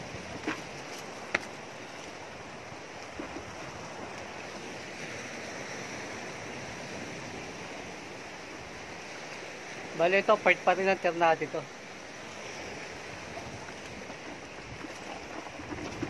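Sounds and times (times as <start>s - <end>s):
surf against rocky shore: 0.0s - 16.0s.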